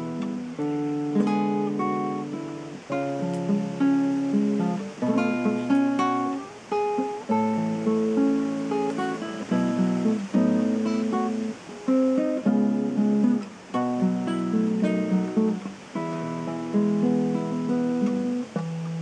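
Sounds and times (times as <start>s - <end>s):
fingerstyle acoustic guitar: 0.0s - 19.0s.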